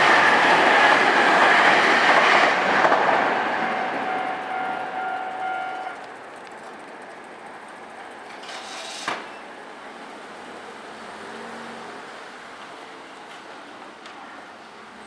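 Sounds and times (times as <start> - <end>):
street and traffic noise: 0.0 - 15.0.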